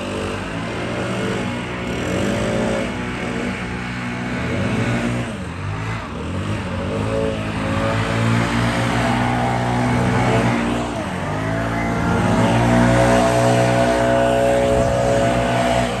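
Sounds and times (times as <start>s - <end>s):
leaf blowers revving: 0.0s - 16.0s
low engine hum: 0.0s - 16.0s.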